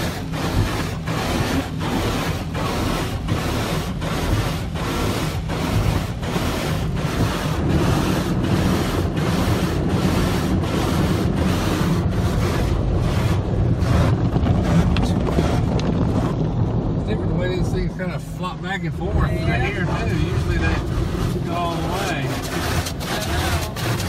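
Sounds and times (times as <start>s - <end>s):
car wash brushes and water spray: 0.0s - 24.0s.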